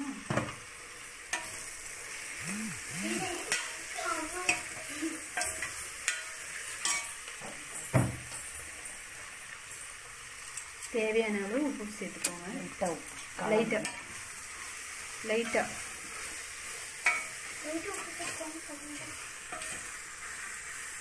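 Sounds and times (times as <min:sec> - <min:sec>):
food sizzling in a pot: 0:00.0 - 0:21.0.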